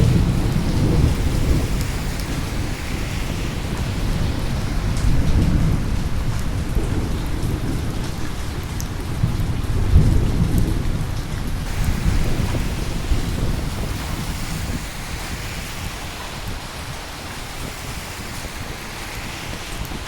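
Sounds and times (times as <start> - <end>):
low rolling thunder: 0.0 - 20.0
steady rain: 0.0 - 20.0.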